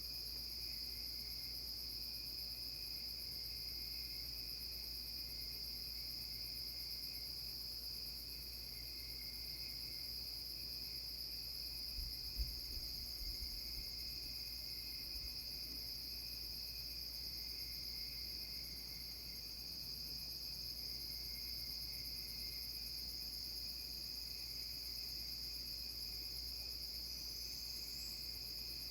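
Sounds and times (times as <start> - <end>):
crickets trilling: 0.0 - 28.9.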